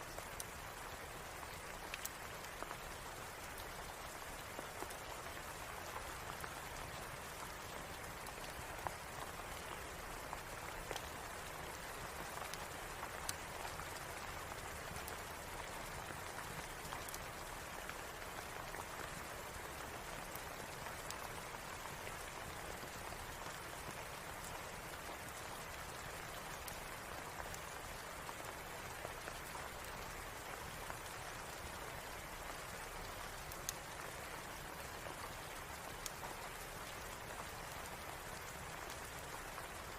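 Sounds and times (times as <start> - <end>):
steady rain falling: 0.0 - 39.9
fireplace crackles: 0.2 - 39.9.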